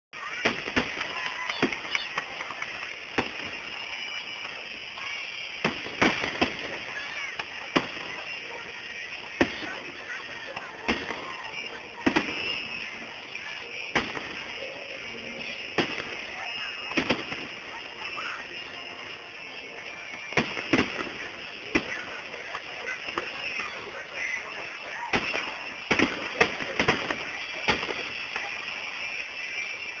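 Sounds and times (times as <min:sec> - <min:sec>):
fireworks bursting: 0:00.2 - 0:30.0
steady hiss: 0:00.2 - 0:30.0.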